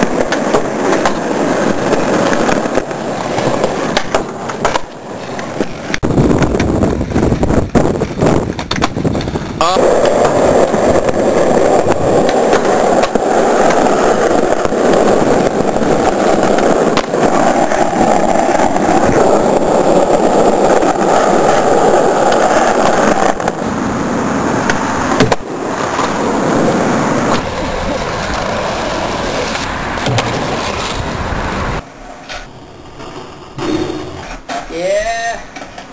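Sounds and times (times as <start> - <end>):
skateboard clacks: 0.0 - 35.9
skateboard wheels rolling on pavement: 0.0 - 35.9.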